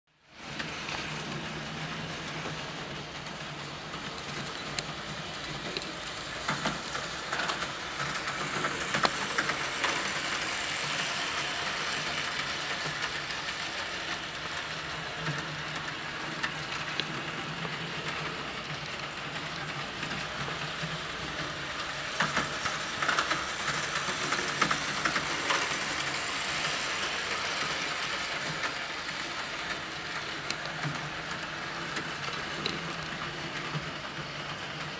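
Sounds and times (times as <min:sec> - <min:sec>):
model train motor hum: 0:01.3 - 0:34.9.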